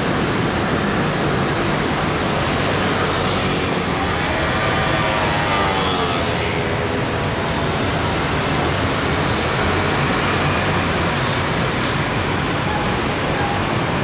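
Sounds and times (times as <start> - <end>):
scooter and motorcycle traffic: 0.0 - 14.0.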